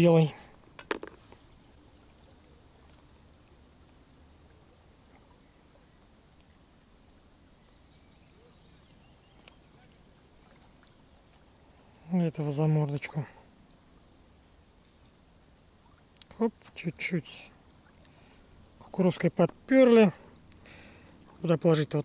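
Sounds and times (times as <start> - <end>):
faint background hiss: 0.0 - 22.0.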